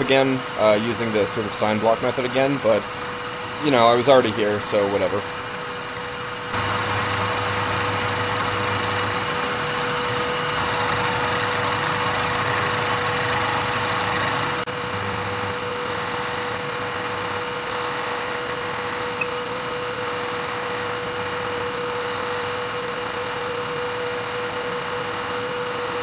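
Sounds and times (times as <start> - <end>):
end mill cutting metal: 0.0 - 26.0
milling spindle whine: 0.0 - 26.0.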